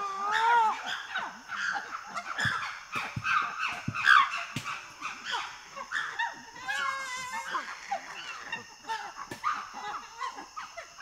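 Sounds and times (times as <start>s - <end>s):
chimpanzees barking and screaming: 0.0s - 11.0s.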